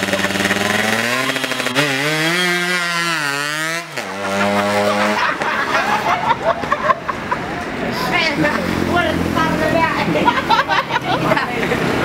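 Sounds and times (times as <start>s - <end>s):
two-stroke motorcycle engine revving: 0.0s - 6.2s, 8.3s - 12.0s.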